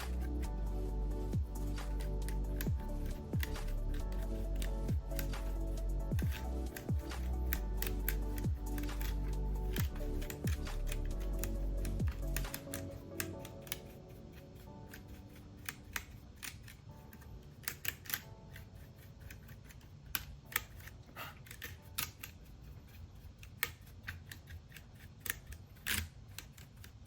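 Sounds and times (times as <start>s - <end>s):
brush scrubbing keyboard: 0.0s - 27.0s.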